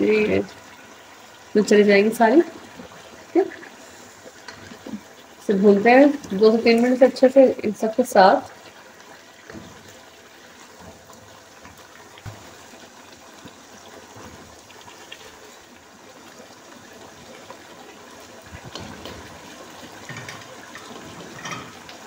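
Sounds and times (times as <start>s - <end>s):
curry sizzling and bubbling: 0.0s - 22.0s.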